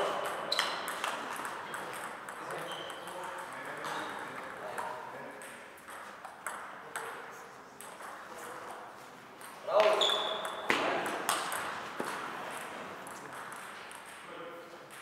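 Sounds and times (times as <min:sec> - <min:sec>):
table tennis ball hits: 0:00.0 - 0:07.2, 0:09.4 - 0:15.0.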